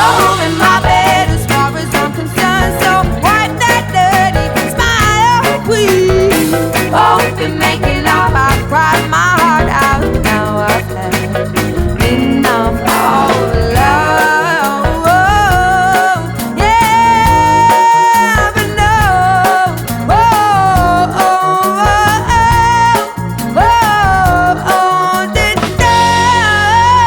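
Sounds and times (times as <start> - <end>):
pop-soul song with band: 0.0 - 27.0
wordless vocal melody with vibrato: 0.0 - 27.0.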